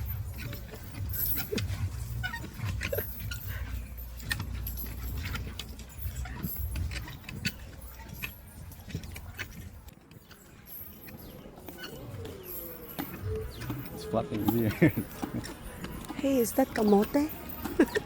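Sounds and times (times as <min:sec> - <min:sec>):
light clicks and jingling rattles: 0:00.0 - 0:18.0.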